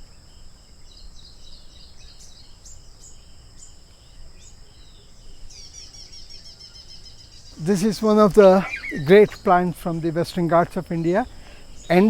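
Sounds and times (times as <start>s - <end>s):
birds chirping: 0.0s - 12.0s
high-pitched insect trill: 0.0s - 12.0s.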